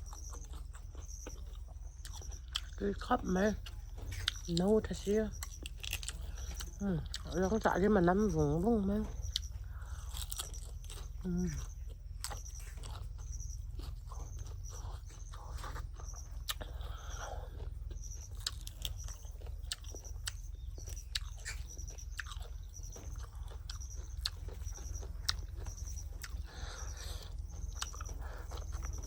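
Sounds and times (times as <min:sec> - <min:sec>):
chewing and biting snails: 0:00.0 - 0:29.0.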